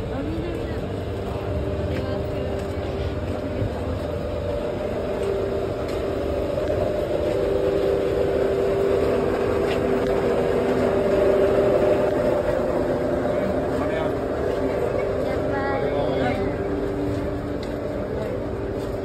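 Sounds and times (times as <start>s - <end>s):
vending machine hum: 0.0s - 19.0s.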